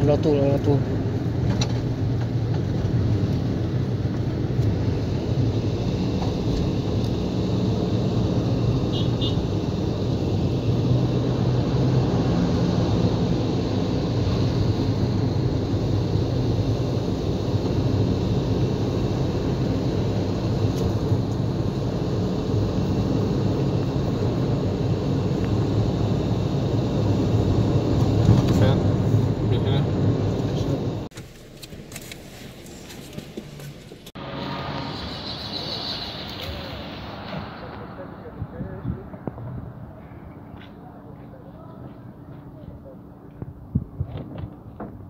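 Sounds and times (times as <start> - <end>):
car road and engine noise: 0.0 - 45.0.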